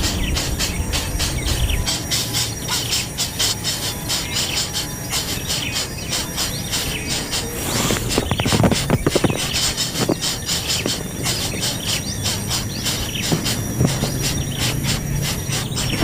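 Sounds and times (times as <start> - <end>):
nestling birds begging calls: 0.0 - 16.0.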